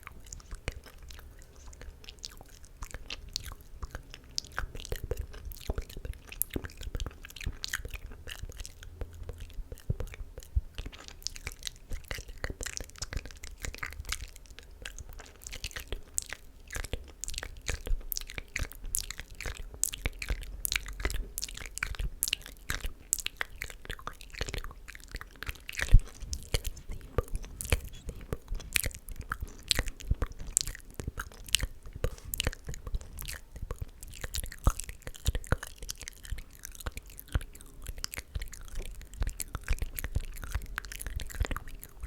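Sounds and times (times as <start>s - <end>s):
wet mouth clicks and smacks: 0.0s - 42.0s.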